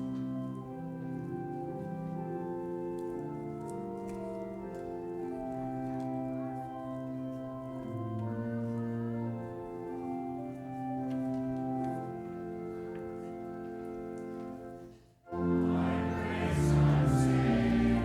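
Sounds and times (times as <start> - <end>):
church organ playing a hymn: 0.0 - 18.0.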